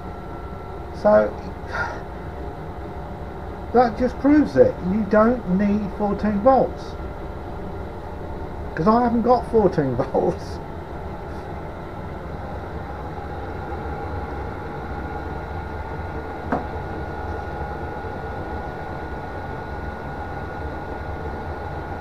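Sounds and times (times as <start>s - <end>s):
diesel air heater running: 0.0s - 22.0s
thin steady whine: 0.0s - 22.0s.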